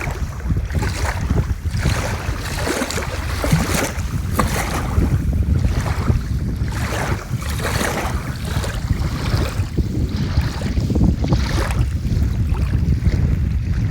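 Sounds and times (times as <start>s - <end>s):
lake waves lapping at shore: 0.0s - 13.9s
wind rumbling on microphone: 0.0s - 13.9s.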